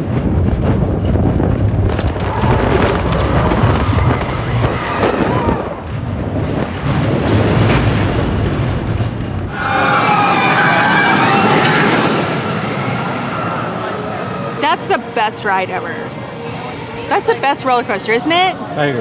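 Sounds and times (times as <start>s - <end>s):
roller coaster train rumbling: 0.0s - 19.0s
wind buffeting microphone: 0.0s - 19.0s.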